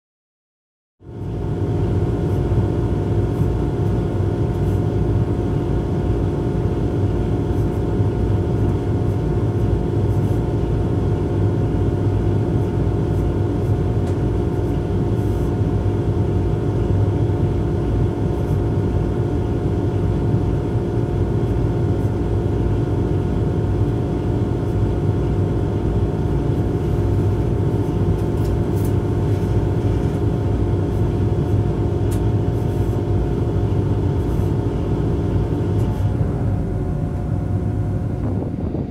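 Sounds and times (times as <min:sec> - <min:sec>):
electrical hum with high tones: 0:01.0 - 0:38.9.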